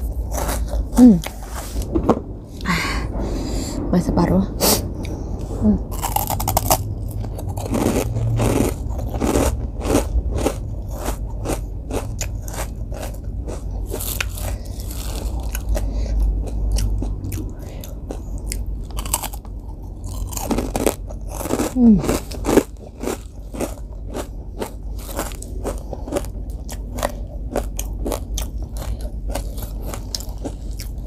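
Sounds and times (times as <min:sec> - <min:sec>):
crunching and chewing cracker: 0:00.0 - 0:01.4, 0:05.9 - 0:31.0.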